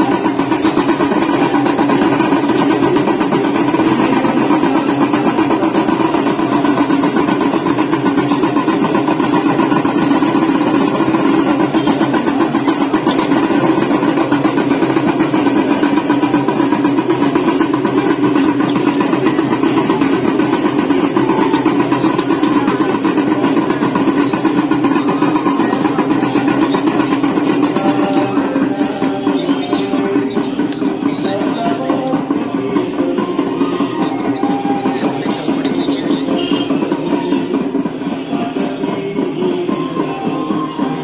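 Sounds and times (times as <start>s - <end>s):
bells ringing rapidly: 0.0s - 41.0s
drums beating: 0.0s - 41.0s.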